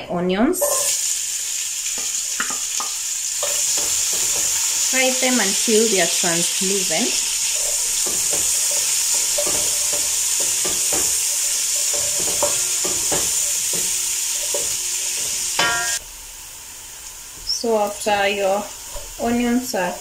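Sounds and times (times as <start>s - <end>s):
onions sizzling in hot oil: 0.5s - 20.0s.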